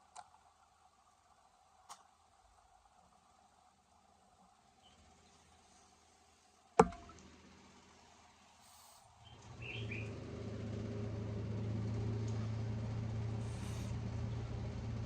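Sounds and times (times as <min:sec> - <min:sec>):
low electric hum: 0:00.0 - 0:15.0.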